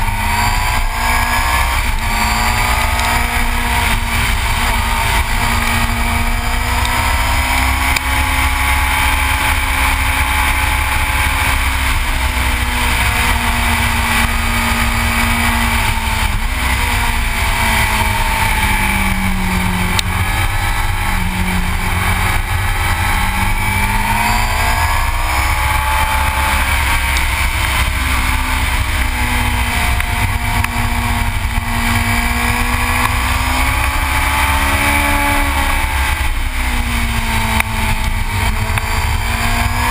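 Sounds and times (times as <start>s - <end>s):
motorcycle engine at speed: 0.0s - 39.9s
wind rumble on microphone: 0.0s - 39.9s.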